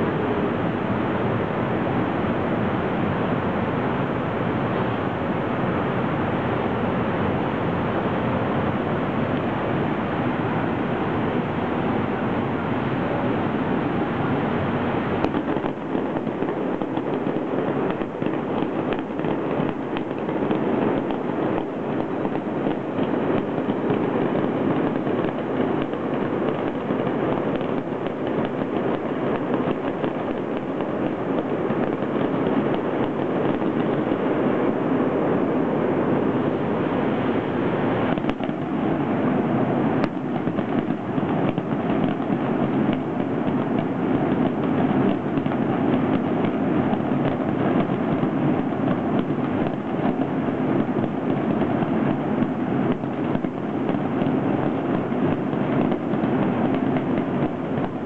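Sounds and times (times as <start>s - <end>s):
distant fireworks rumble and crackle: 0.0s - 58.0s.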